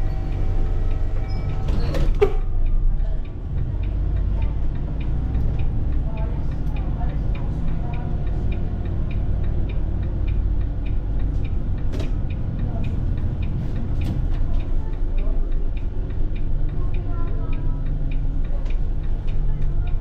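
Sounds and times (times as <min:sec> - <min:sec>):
diesel bus engine pulling away: 0:00.0 - 0:20.0
turn indicator ticking: 0:02.2 - 0:20.0.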